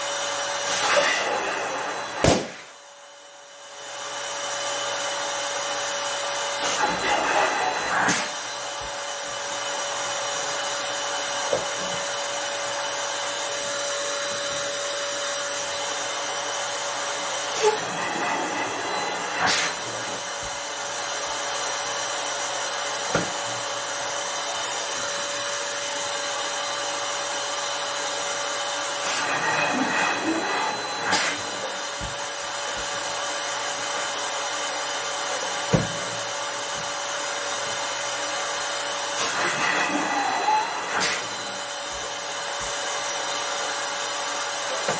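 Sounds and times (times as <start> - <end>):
electric balloon inflator running: 0.0 - 44.9.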